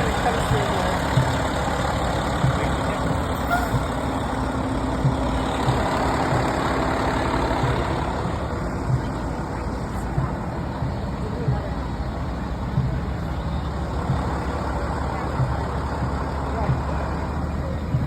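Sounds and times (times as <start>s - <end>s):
fire truck engine rumbling: 0.0s - 18.0s.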